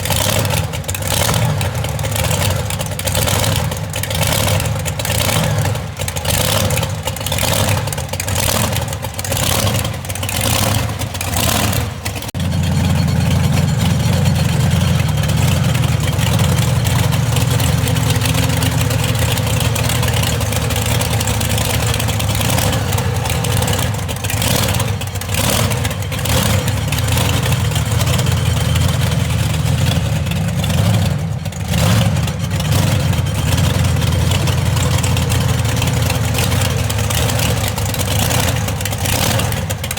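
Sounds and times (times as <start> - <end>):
monster truck engine revving: 0.0 - 39.9.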